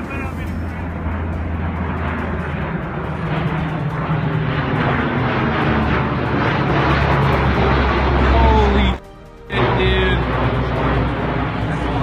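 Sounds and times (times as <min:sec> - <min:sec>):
aircraft engine rumble: 0:00.0 - 0:12.0.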